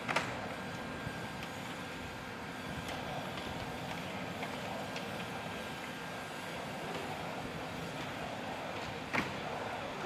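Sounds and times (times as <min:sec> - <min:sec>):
steady machinery noise: 0:00.0 - 0:10.0.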